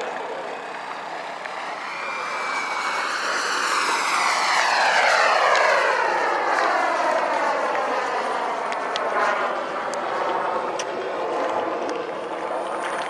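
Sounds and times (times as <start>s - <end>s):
model aircraft engine passing: 0.0s - 13.0s.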